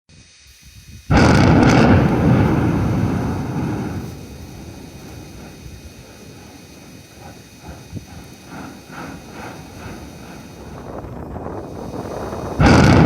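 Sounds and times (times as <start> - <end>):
loud rumbling boom: 1.1 - 13.0.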